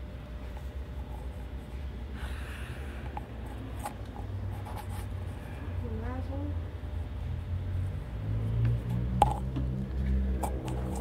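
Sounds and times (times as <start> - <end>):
low street rumble: 1.5 - 11.0.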